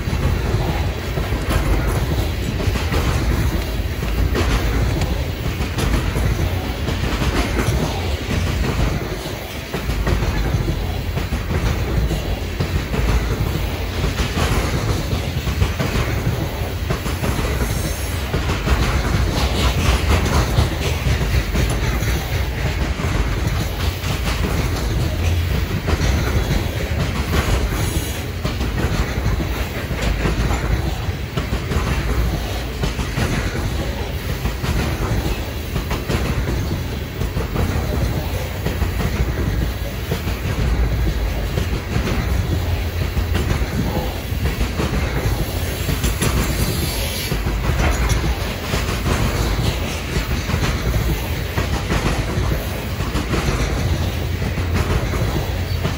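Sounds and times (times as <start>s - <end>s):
freight train rumble: 0.0s - 55.9s
train wheels clicking over rail joints: 0.0s - 55.9s.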